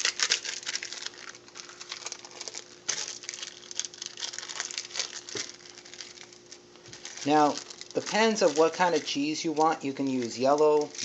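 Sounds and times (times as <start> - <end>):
faint steady hum: 0.0 - 11.0
plastic wrapper crinkling: 0.0 - 11.0.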